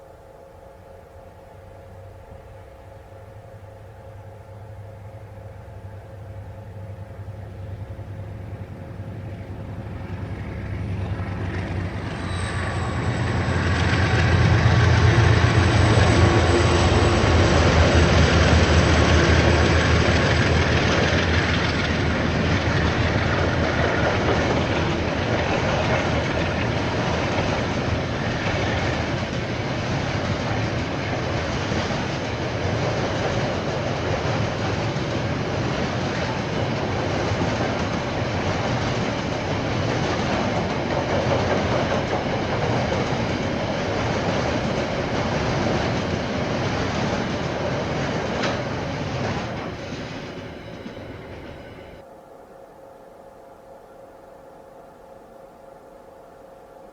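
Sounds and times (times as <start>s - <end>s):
diesel train passing: 0.0s - 56.9s.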